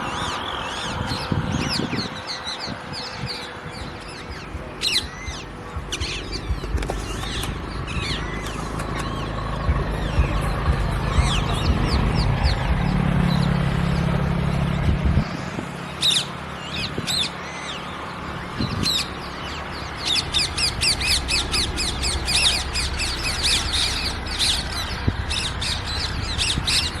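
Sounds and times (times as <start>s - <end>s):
parrots squawking: 0.0s - 12.6s, 15.9s - 17.9s, 18.5s - 27.0s
low steady drone: 0.0s - 27.0s.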